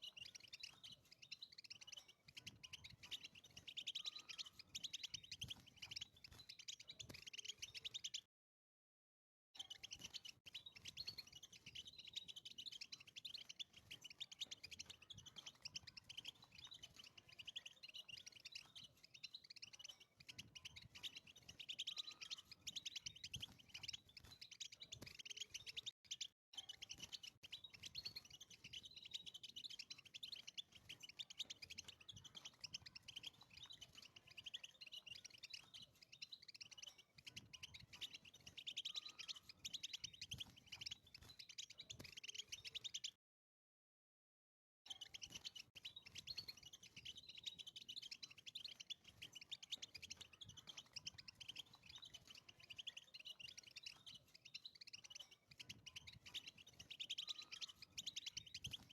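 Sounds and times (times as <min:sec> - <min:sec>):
goldfinch twittering song: 0:00.0 - 0:08.3, 0:09.6 - 0:43.2, 0:44.9 - 0:58.9.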